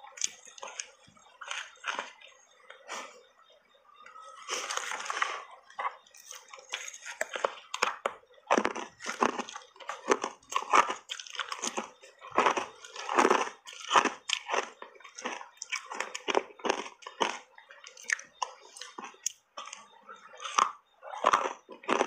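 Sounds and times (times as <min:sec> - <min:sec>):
crunching ice: 0:04.2 - 0:22.0.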